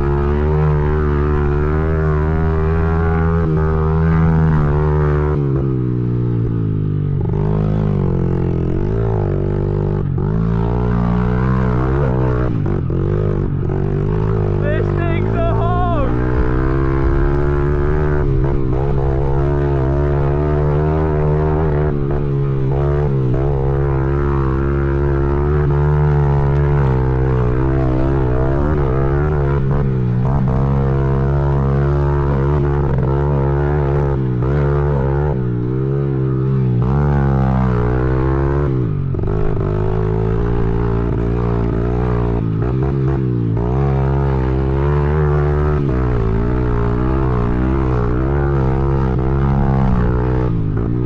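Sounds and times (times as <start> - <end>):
pit bike engine revving: 0.0 - 51.0.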